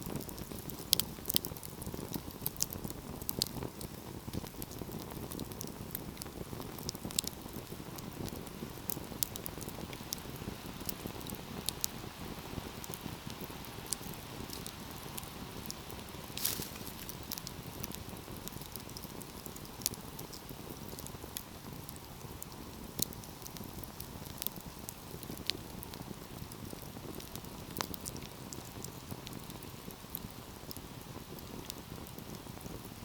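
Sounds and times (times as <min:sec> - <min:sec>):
sharp pops from fire: 0:00.0 - 0:12.0, 0:12.7 - 0:32.7
wood fire crackling: 0:00.0 - 0:33.0.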